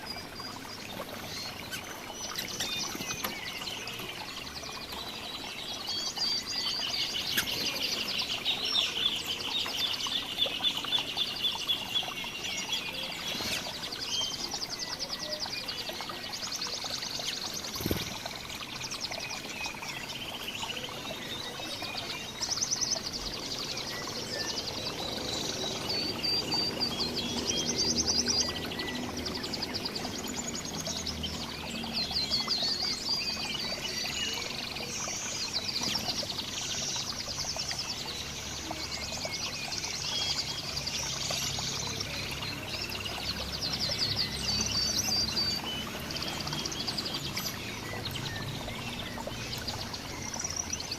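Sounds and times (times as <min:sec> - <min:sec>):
songbirds chirping and trilling: 0:00.0 - 0:50.9.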